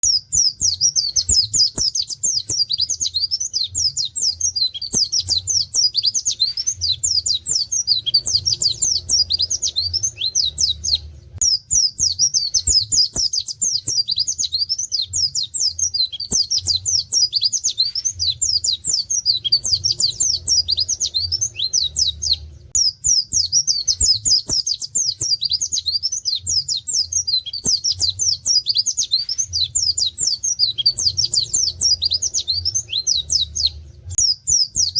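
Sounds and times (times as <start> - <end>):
bird chirping and trilling: 0.0 - 34.9.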